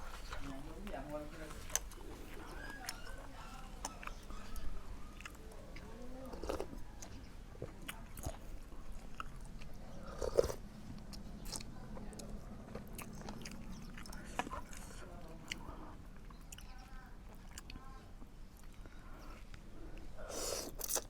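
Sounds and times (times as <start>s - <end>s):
person chewing food: 1.5s - 21.0s.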